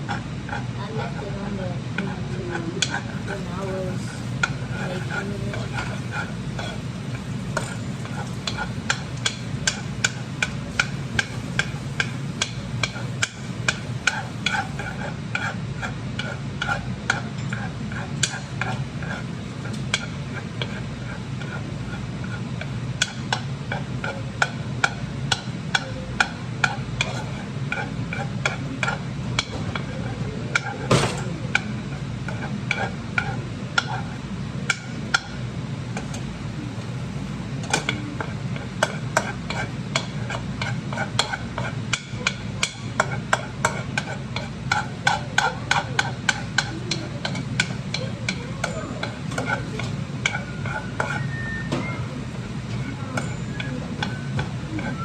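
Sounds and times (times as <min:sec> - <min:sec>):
utensil tapping pan: 0:00.0 - 0:36.3, 0:37.5 - 0:55.0
utensil scraping frying pan: 0:00.0 - 0:36.4, 0:37.2 - 0:55.0
butter sizzling: 0:00.0 - 0:55.0
vent fan humming: 0:00.0 - 0:55.0.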